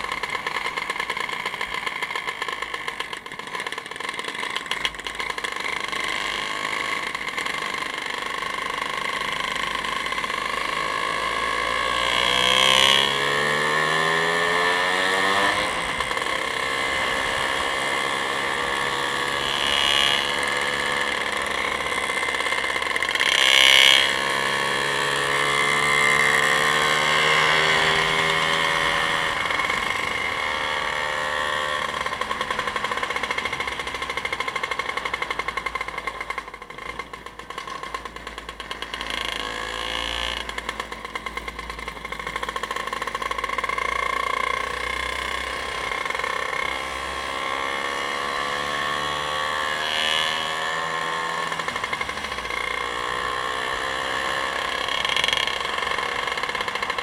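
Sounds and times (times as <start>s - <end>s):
vehicle engine revving: 5.5s - 57.0s.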